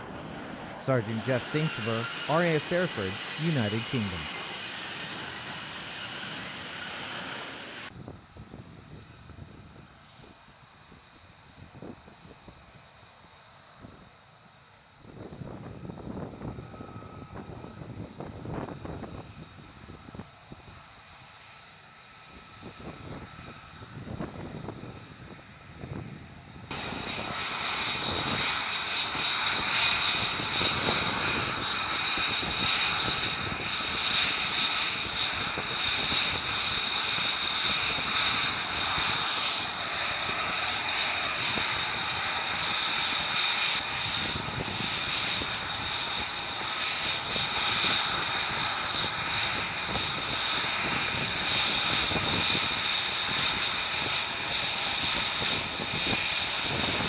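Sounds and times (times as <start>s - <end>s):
jet engine high whine: 0.0s - 57.0s.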